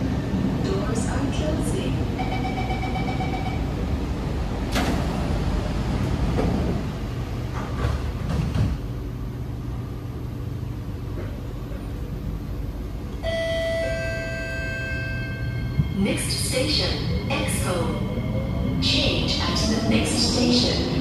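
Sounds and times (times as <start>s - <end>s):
train cabin rumble and hum: 0.0s - 21.0s.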